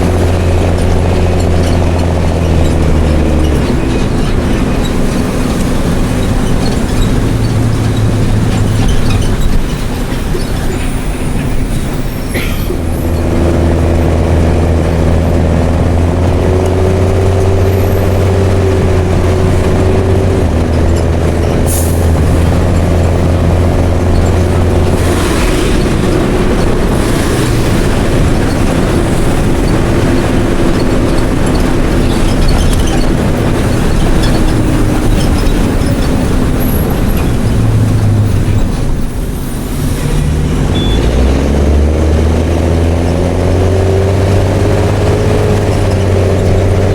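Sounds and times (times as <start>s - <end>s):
diesel bus engine drone: 0.0s - 46.9s.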